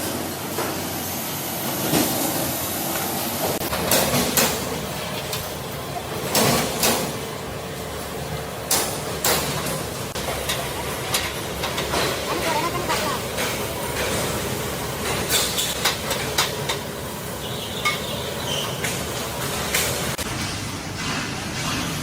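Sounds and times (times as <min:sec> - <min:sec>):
steady workshop background noise: 0:00.0 - 0:22.0.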